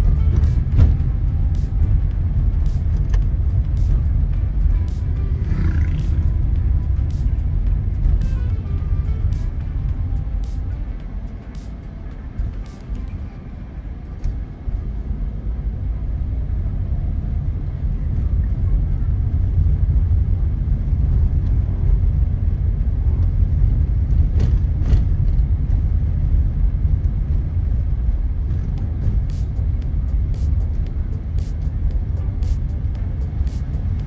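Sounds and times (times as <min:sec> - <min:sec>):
car road and tyre noise: 0:00.0 - 0:34.0.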